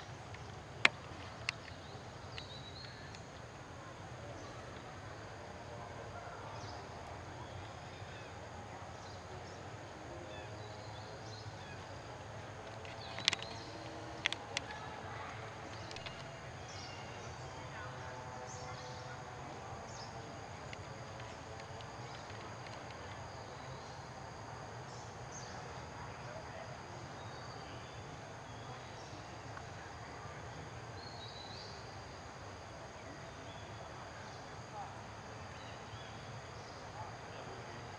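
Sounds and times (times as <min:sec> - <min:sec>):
background hiss: 0:00.0 - 0:37.9
insects droning: 0:00.0 - 0:37.9.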